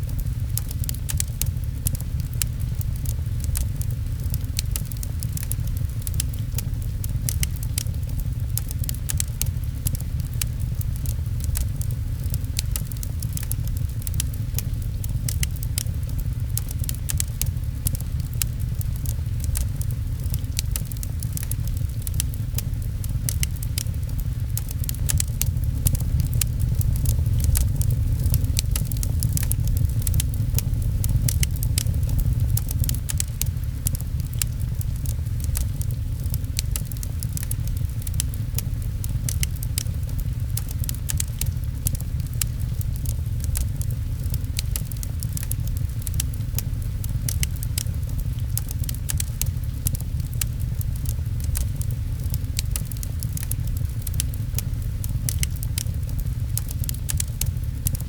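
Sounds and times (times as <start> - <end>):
rain: 0.0 - 58.0
wood fire crackling: 0.0 - 58.0.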